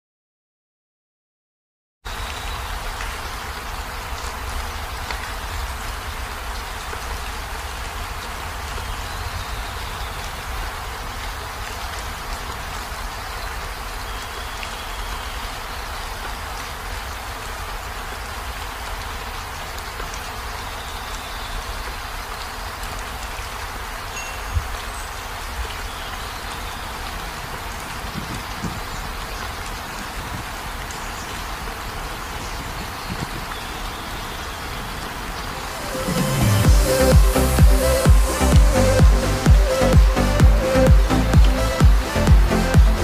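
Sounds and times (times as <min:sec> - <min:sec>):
steady rain falling: 0:02.1 - 0:43.0.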